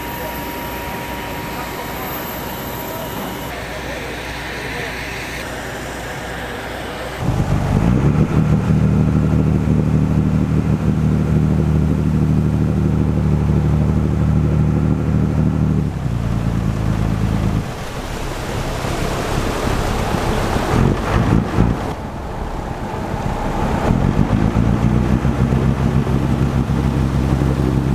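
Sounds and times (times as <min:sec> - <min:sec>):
diesel engine droning: 0:00.0 - 0:27.9
water noise: 0:00.0 - 0:27.9
wind: 0:00.0 - 0:27.9.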